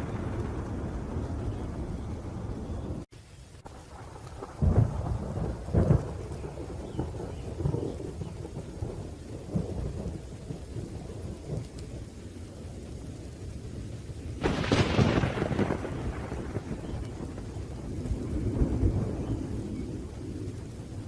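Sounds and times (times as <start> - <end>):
sharp thunderclap: 0.0 - 3.1, 3.7 - 11.8, 14.4 - 20.7
rolling thunder rumble: 0.0 - 21.0
steady rain: 0.0 - 21.0.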